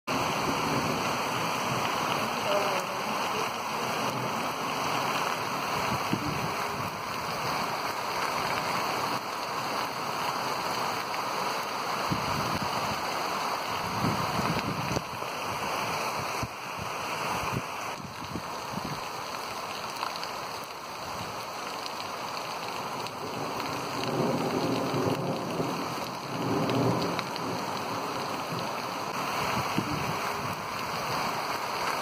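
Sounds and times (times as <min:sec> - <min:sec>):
heavy rain on ground and puddles: 0:00.1 - 0:32.0.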